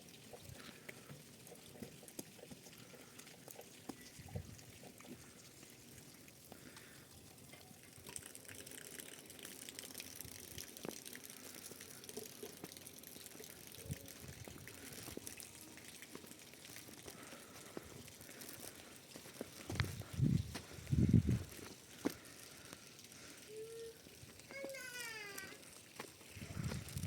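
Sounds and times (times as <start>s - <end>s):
faint trickling water: 0.0s - 27.0s
water drips: 0.0s - 27.0s.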